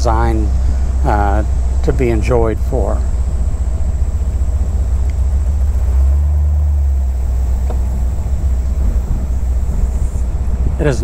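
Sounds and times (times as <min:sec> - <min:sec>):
deep car engine running: 0:00.0 - 0:11.0.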